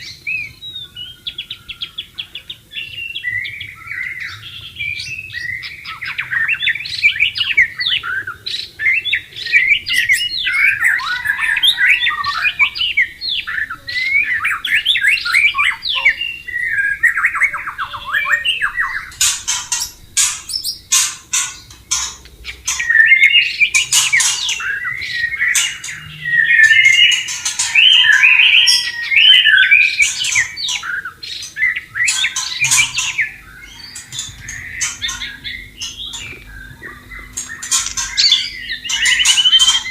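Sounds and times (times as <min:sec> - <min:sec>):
sharp harsh bird notes: 0:00.0 - 0:39.9
bird singing whistled phrases: 0:02.8 - 0:19.2, 0:22.7 - 0:39.9.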